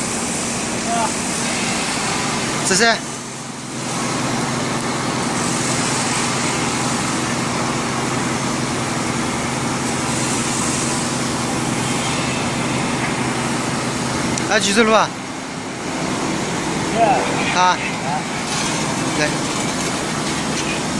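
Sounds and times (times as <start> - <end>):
hydraulic pump hum and hiss: 0.0 - 20.9.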